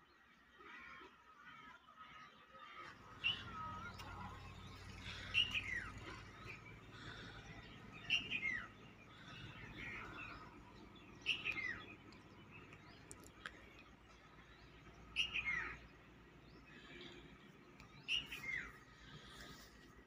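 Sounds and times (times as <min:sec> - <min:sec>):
birds chirping: 0:02.9 - 0:20.0.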